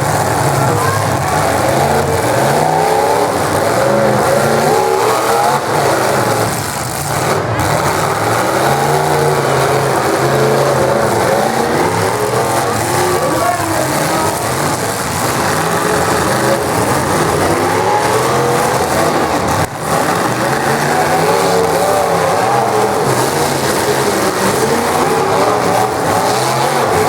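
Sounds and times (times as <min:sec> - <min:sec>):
car engines revving hard: 0:00.0 - 0:27.0
steady noisy background: 0:00.0 - 0:27.0.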